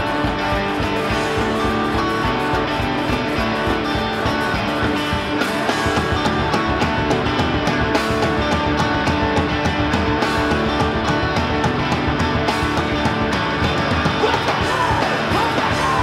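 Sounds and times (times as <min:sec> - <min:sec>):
punk rock band playing: 0:00.0 - 0:16.0.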